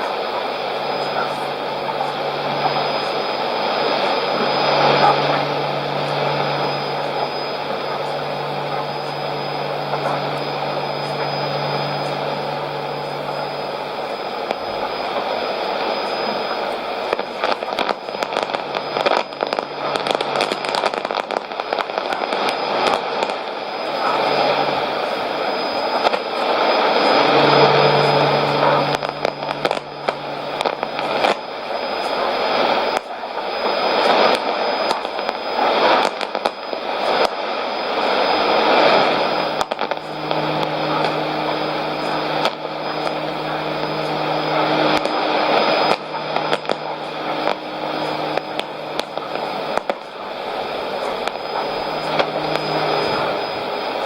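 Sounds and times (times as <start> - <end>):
crackling radio clicks: 0.0 - 54.0
hissing radio signal: 0.0 - 54.0
low hum: 0.0 - 54.0.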